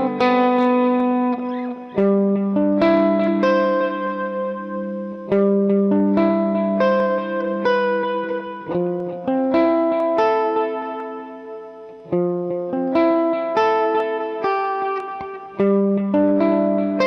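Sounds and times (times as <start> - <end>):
electric guitar notes ringing: 0.0 - 17.0.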